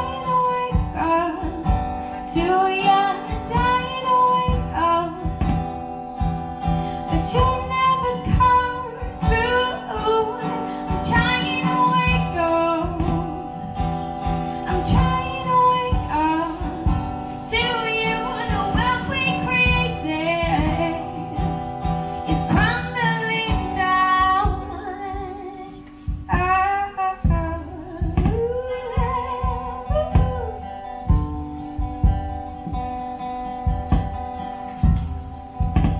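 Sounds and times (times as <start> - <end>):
woman singing: 0.0 - 5.8, 7.0 - 32.8
acoustic guitar strumming: 0.0 - 35.9.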